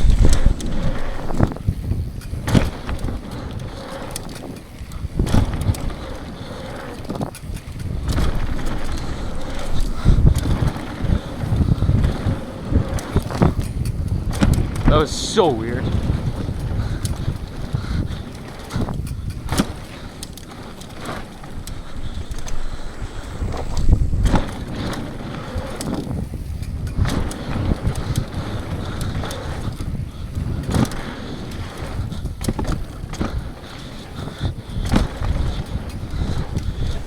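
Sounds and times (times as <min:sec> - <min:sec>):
bike knocking and rattling: 0:00.0 - 0:37.0
bike tyres rumbling on dirt: 0:00.0 - 0:37.0.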